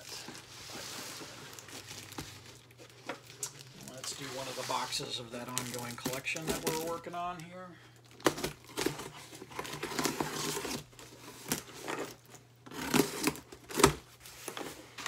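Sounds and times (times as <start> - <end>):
packing tape tearing off cardboard: 0.0 - 7.0, 8.1 - 14.7.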